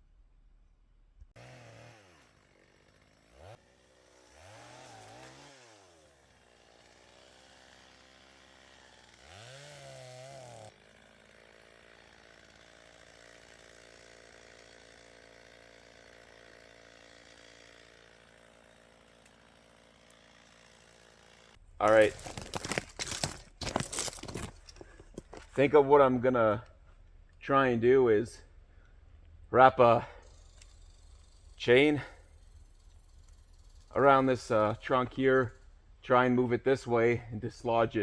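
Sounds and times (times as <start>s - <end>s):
chainsaw revving and idling: 1.4s - 38.0s.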